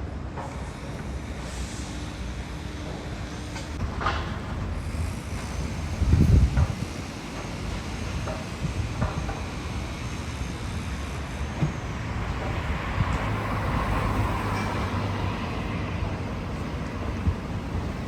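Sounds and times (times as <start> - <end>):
vehicle engine and road rumble: 1.8 - 18.0.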